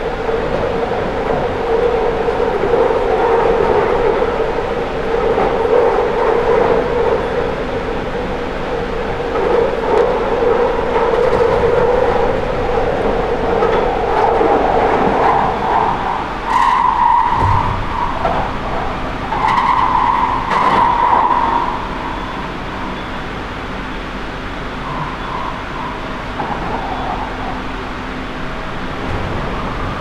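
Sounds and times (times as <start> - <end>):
high wheel squeal: 0.0 - 30.0
underground train rumbling in tunnel: 0.0 - 30.0.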